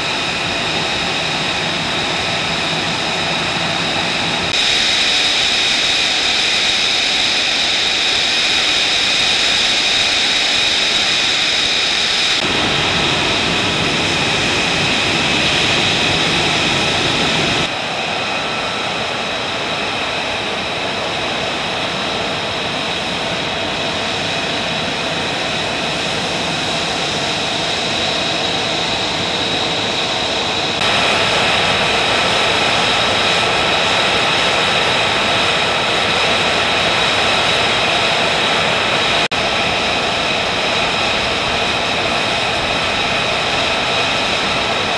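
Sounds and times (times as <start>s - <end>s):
high turbine whine: 0.0s - 44.9s
jet engines idling roar: 0.0s - 44.9s.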